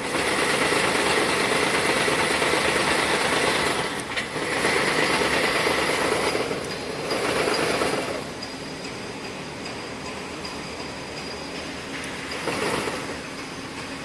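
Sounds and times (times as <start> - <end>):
braiding machine running: 0.0 - 14.0.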